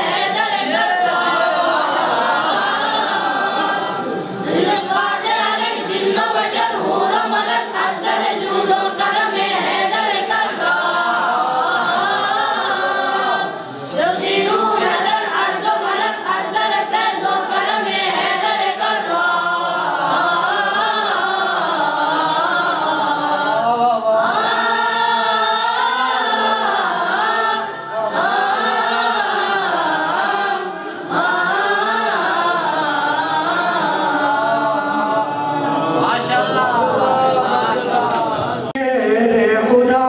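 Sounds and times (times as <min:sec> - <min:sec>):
boys choir singing: 0:00.0 - 0:40.0.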